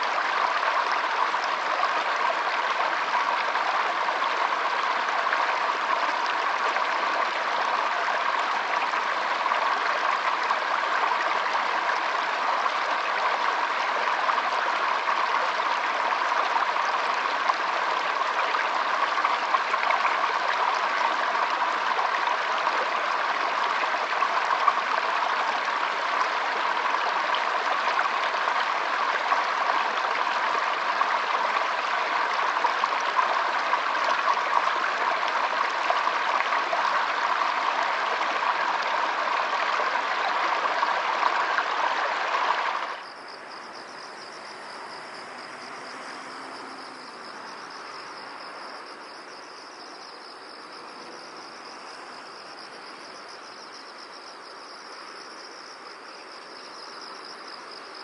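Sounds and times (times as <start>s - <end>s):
crickets chirping: 0.0s - 58.0s
stream water flowing: 0.0s - 58.0s.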